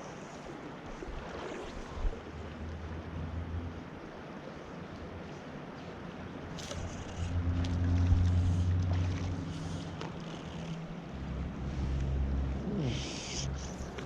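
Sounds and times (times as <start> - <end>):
flowing creek water: 0.0 - 14.0.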